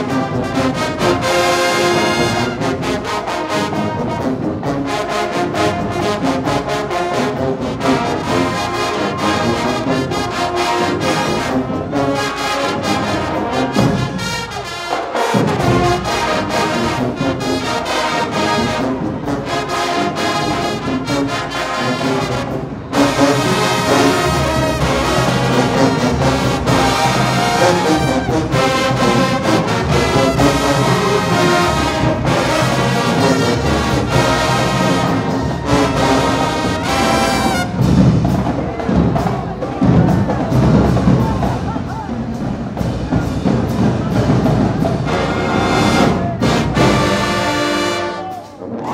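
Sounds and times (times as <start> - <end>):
marching band playing: 0.0 - 48.9.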